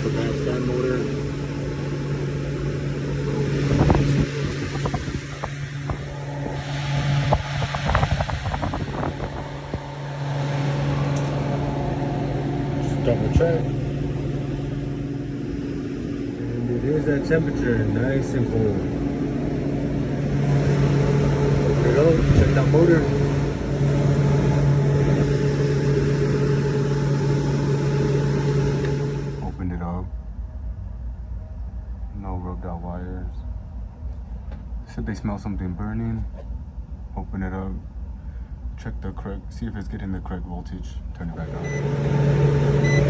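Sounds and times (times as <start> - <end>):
low machine hum: 0.0 - 43.0.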